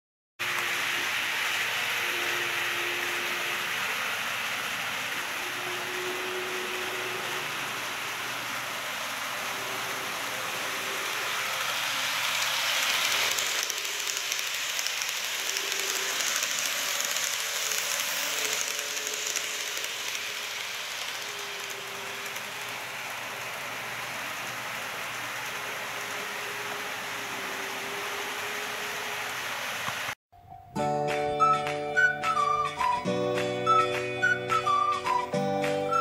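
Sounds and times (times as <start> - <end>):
model train running on track: 0.4 - 30.2, 31.4 - 36.0.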